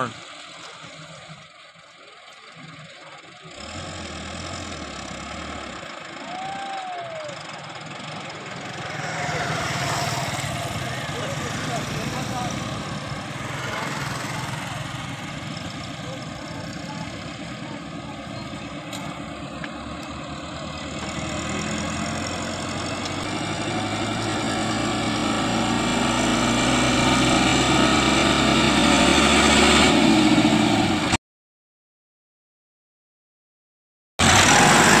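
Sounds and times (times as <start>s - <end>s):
tractor diesel engine under load: 0.0s - 31.2s, 34.2s - 35.0s.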